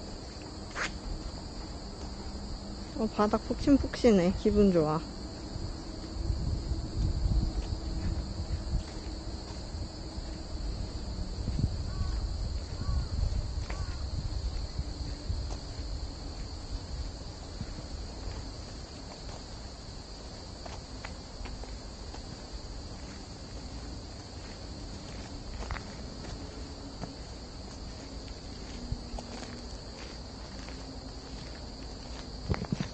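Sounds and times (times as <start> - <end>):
footsteps on spongy forest path: 0.0 - 32.9
insect chorus: 0.0 - 32.9.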